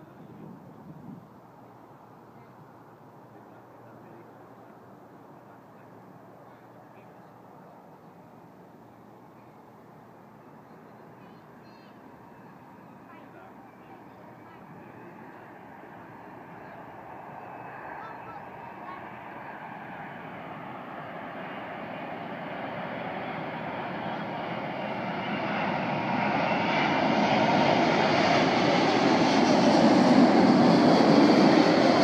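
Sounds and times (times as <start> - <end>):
jet airliner engines approaching: 0.0 - 32.0.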